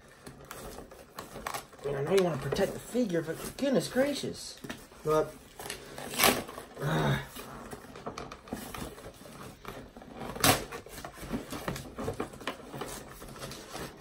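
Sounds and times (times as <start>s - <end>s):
cardboard rustling and scraping: 0.0s - 14.0s
cardboard box ripping: 0.2s - 14.0s.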